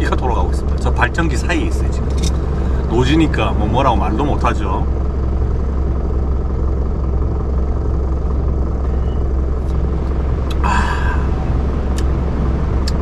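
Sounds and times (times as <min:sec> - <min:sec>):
generators droning: 0:00.0 - 0:13.0.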